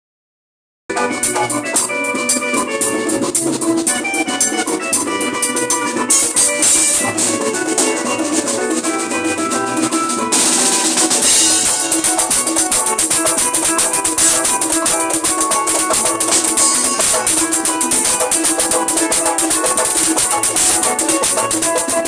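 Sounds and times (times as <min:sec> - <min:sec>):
fast drum beat music: 0:00.9 - 0:22.0.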